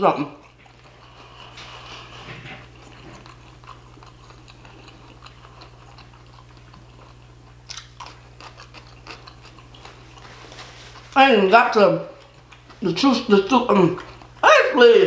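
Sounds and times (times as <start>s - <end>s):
steady low hum: 0.0s - 15.0s
chewing food: 0.2s - 11.2s, 12.1s - 14.4s.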